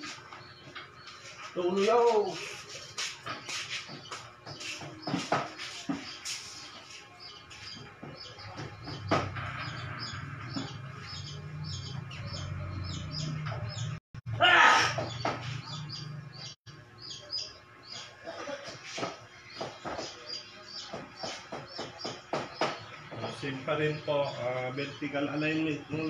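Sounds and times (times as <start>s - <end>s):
small birds chirping: 0.0s - 14.0s, 14.6s - 26.0s.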